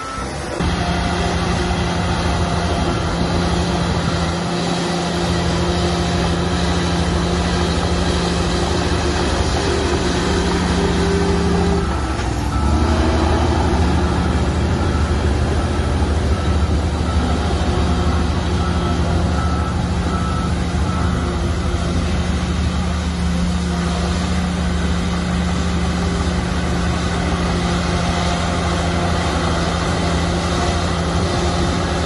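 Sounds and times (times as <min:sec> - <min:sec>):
heavy machinery diesel engines: 0:00.0 - 0:32.0.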